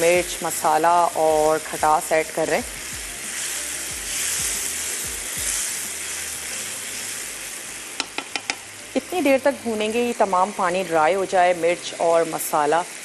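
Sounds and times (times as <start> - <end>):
masala sizzling in frying pan: 0.0 - 13.0.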